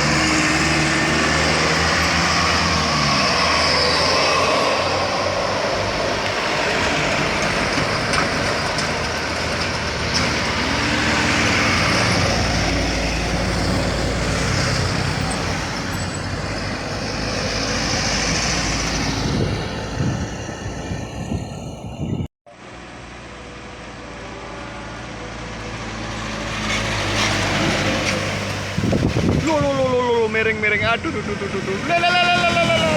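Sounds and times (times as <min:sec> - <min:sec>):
train passing: 0:00.0 - 0:29.2
heavy truck passing at speed: 0:00.0 - 0:32.9.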